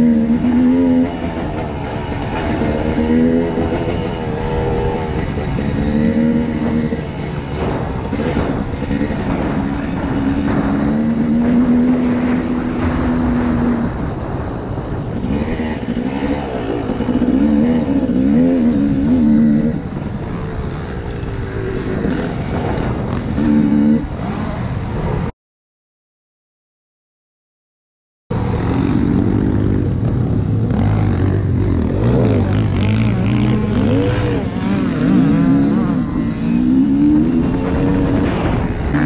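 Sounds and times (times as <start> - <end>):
dirt bike engine revving: 0.0 - 25.3, 28.3 - 39.0
wind noise: 0.0 - 25.3, 28.3 - 39.0.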